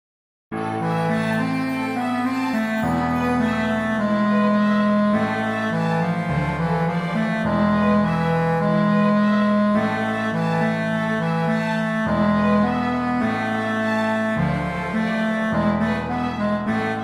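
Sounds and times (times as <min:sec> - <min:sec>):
slow sustained instrumental music: 0:00.6 - 0:17.0.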